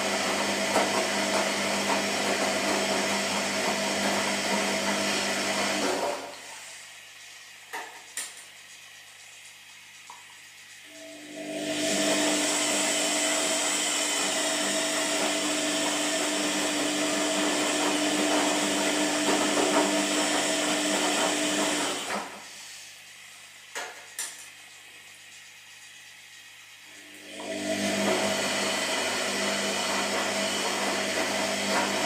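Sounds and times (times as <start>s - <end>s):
washing machine running: 0.0s - 32.0s.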